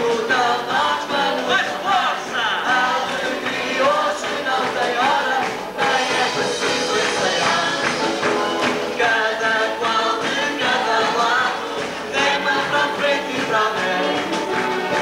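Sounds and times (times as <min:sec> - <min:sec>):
song with full band: 0:00.0 - 0:15.0.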